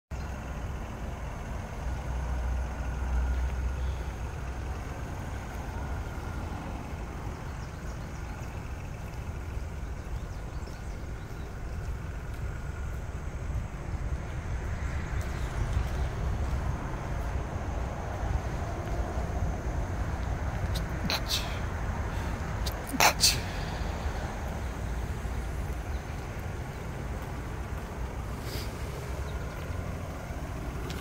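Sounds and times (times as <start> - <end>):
low outdoor rumble: 0.1 - 31.0.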